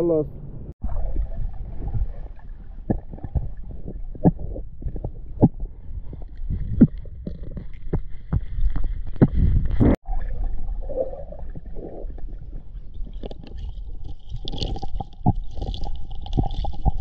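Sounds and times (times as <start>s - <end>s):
muffled underwater rumble: 0.5s - 17.0s
knocks of debris underwater: 0.8s - 17.0s.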